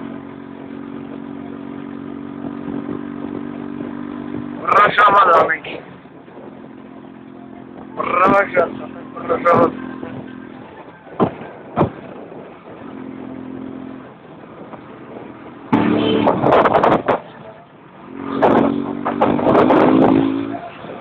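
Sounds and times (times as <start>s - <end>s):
vehicle engine driving: 0.0s - 21.0s
wind and road noise: 0.0s - 21.0s.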